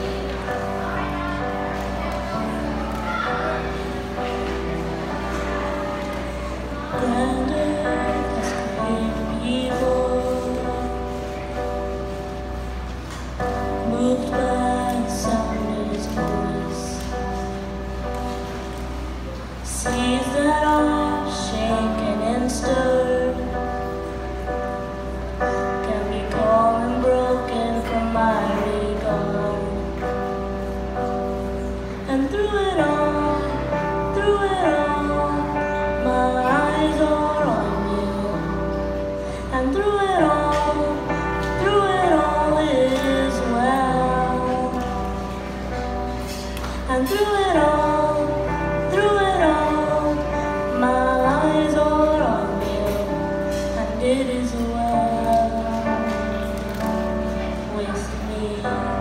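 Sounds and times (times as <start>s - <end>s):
girl singing into a microphone: 0.0s - 12.8s, 13.4s - 59.0s
recorded musical accompaniment: 0.0s - 59.0s.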